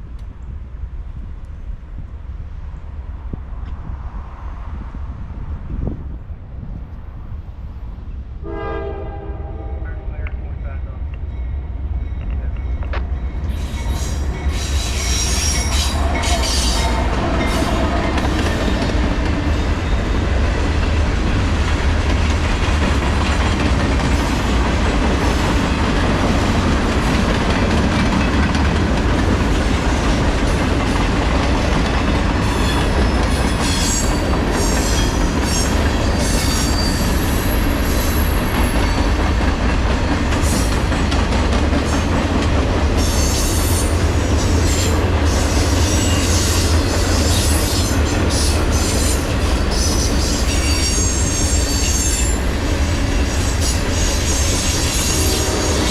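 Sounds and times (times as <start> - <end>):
freight train wheels rumbling on rail: 0.0 - 55.9.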